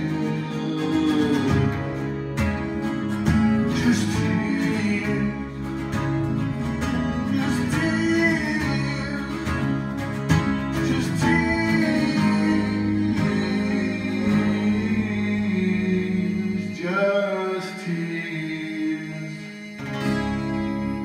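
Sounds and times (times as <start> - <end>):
strummed guitar chords: 0.0 - 21.0.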